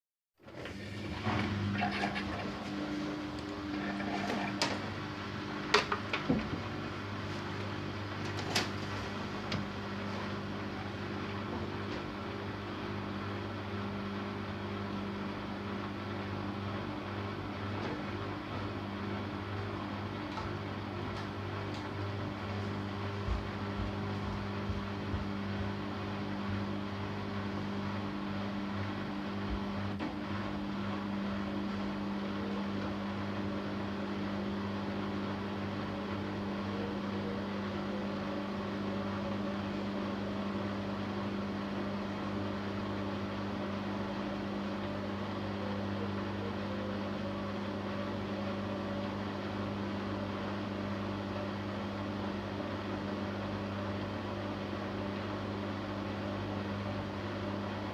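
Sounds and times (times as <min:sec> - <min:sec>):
washing machine motor hum: 0:00.4 - 0:57.9.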